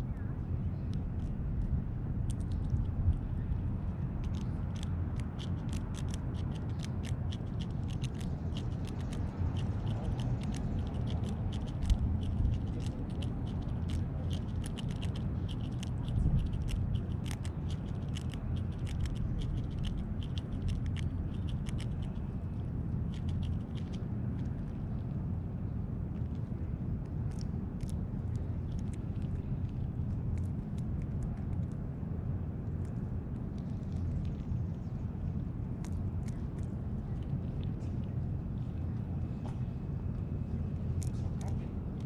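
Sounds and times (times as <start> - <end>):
low rumble: 0.0 - 42.0.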